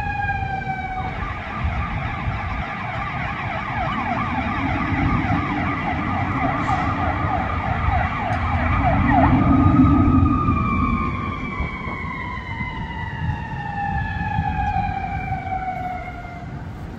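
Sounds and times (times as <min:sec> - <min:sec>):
fire truck siren: 0:00.0 - 0:16.9
truck engine rumbling: 0:00.0 - 0:16.9.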